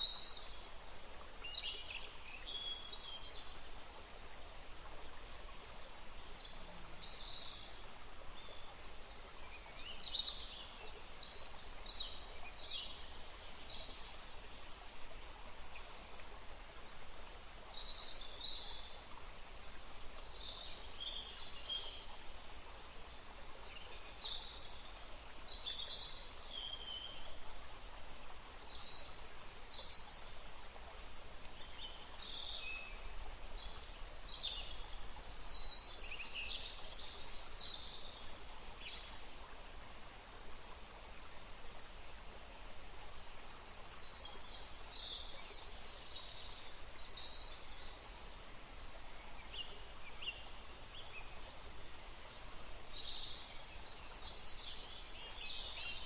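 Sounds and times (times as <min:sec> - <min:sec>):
running water: 0:00.0 - 0:56.0
songbirds chirping: 0:00.0 - 0:56.0
wind in trees: 0:00.0 - 0:56.0.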